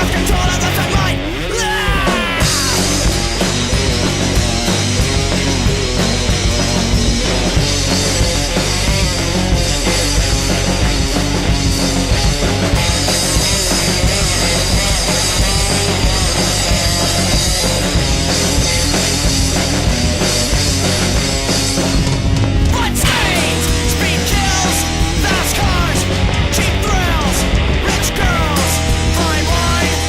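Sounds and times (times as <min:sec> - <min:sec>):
bass guitar: 0:00.0 - 0:30.0
drums playing: 0:00.0 - 0:30.0
electric guitar: 0:00.0 - 0:30.0.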